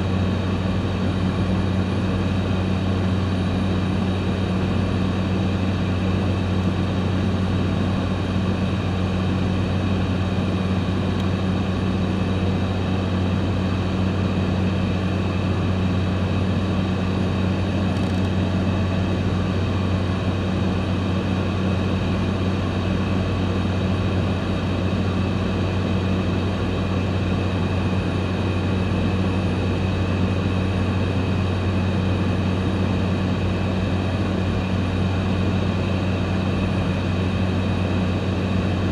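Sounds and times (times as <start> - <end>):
propeller plane engine hum: 0.0 - 38.9.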